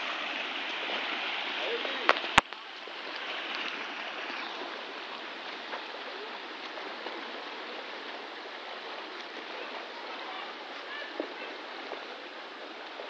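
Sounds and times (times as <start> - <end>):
swimming pool water wash: 0.0 - 13.0.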